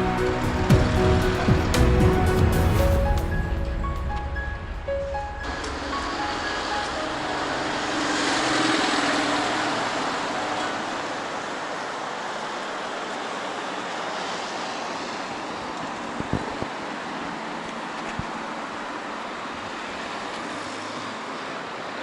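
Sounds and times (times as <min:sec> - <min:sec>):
passing vehicles: 0:00.0 - 0:22.0.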